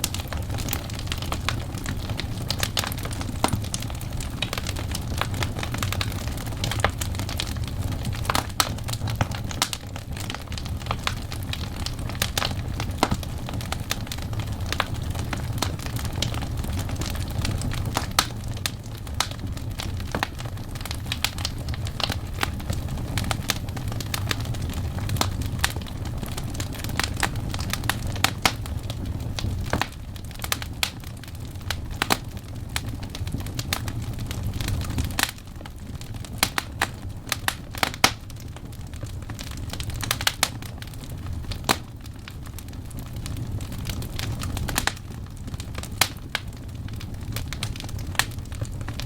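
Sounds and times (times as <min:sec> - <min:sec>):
wood logs crackling in fire: 0:00.0 - 0:49.0.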